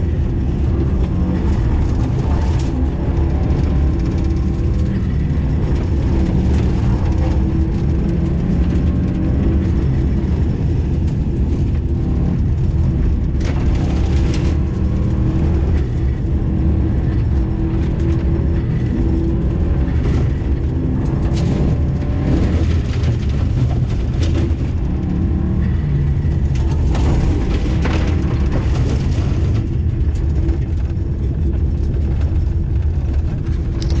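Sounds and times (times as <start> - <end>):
car engine revving: 0.0 - 34.0
tyre and road noise: 0.0 - 34.0.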